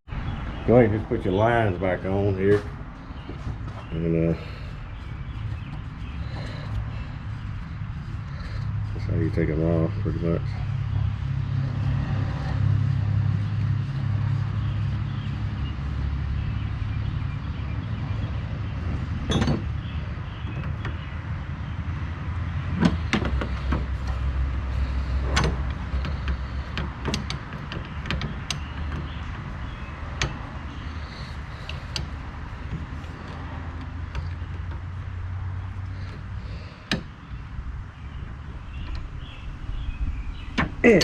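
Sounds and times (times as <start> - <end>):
steady low hum: 0.1 - 41.0.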